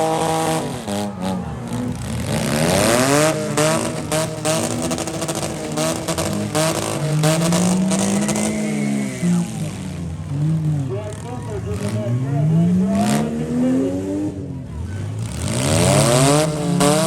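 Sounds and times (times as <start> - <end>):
engines revving: 0.0 - 17.0
vehicles crashing: 0.0 - 17.0.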